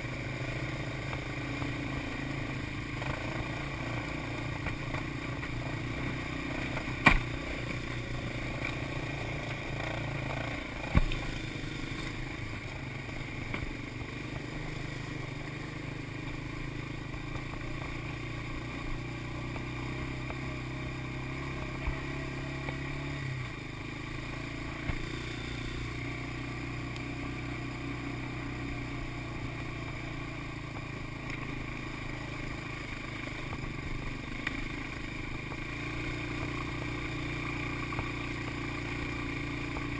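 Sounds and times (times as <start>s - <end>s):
small atv engine running: 0.0s - 39.9s.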